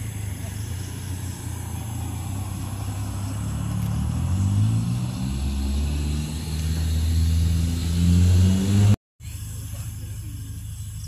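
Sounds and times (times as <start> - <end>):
car engine speeding up: 0.0 - 9.0.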